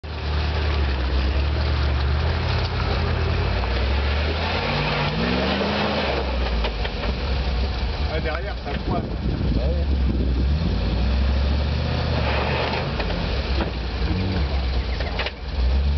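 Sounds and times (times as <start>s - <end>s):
car engine at low revs: 0.0s - 15.9s.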